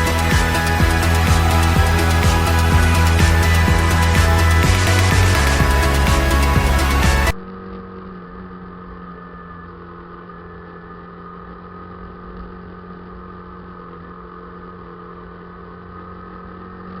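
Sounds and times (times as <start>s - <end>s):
vehicle engine idling: 0.0s - 16.2s.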